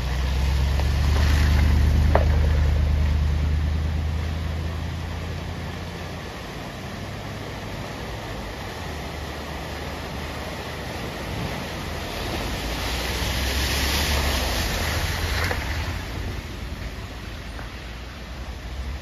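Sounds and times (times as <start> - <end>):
van engine rumble: 0.0 - 19.0
water rushing and splashing: 0.0 - 19.0.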